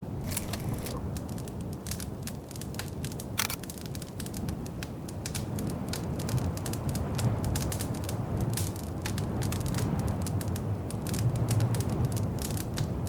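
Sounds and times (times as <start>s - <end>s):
fireplace fire crackling and popping: 0.0s - 13.0s
low rumble of flames: 0.0s - 13.0s.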